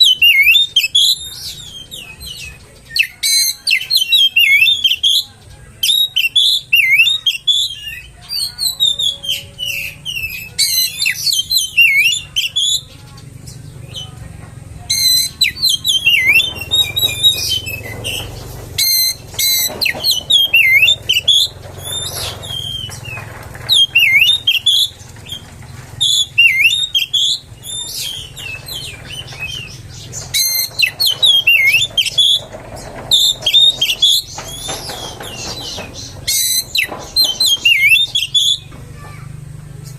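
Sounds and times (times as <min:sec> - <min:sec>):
bird singing whistled phrases: 0:00.0 - 0:13.0, 0:14.9 - 0:25.4, 0:26.0 - 0:32.4, 0:33.1 - 0:38.7.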